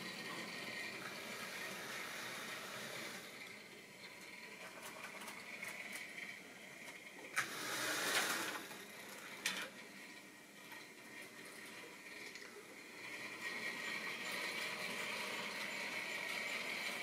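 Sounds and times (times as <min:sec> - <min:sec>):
model train motor whirr and rattle: 0:00.0 - 0:17.0.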